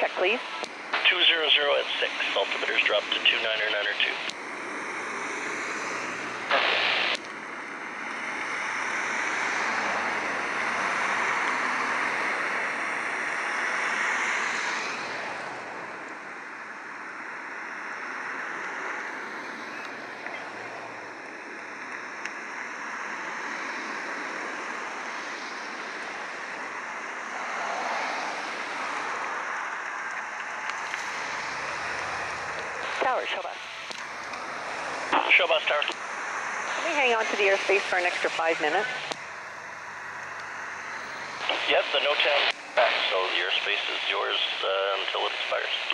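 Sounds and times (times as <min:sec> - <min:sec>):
distant jet roar: 0:00.3 - 0:45.9.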